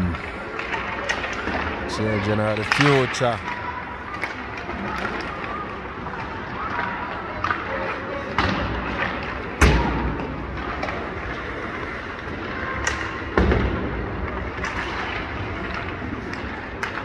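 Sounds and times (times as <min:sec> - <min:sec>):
pucks banging against boards: 0:00.5 - 0:17.0.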